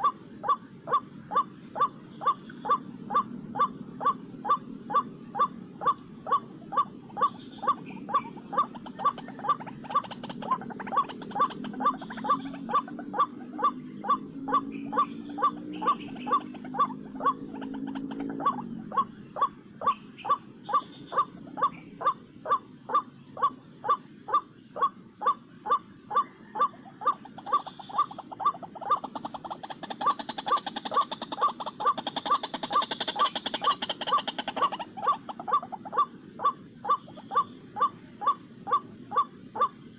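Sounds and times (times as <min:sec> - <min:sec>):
bird calls in fast rhythm: 0:00.0 - 0:39.9.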